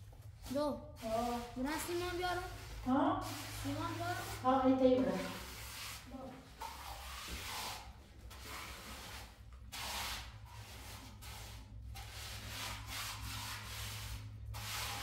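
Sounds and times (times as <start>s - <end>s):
rough scraping strokes: 0.5s - 15.0s.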